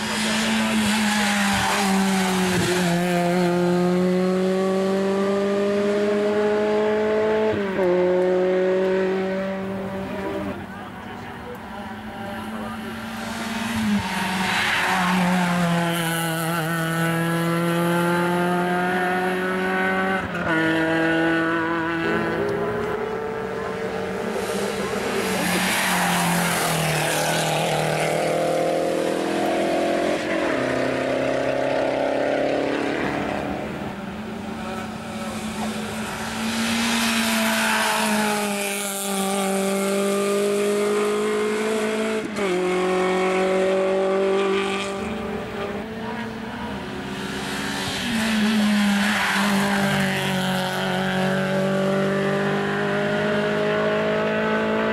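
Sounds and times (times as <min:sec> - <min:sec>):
race car engines accelerating: 0:00.0 - 0:54.9.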